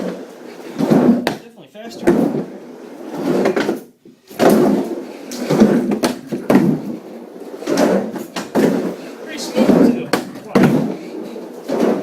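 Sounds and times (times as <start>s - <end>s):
skateboard rolling on ramp: 0.0s - 1.3s, 1.9s - 12.0s
skateboard knocks and thuds: 0.8s - 2.6s, 3.3s - 12.0s.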